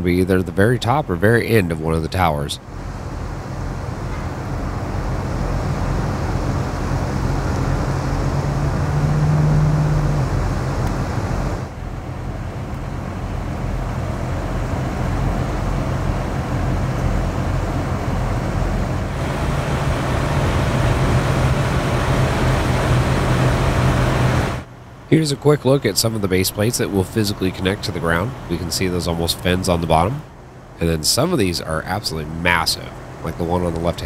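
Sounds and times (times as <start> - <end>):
outdoor traffic noise: 0.0 - 34.0.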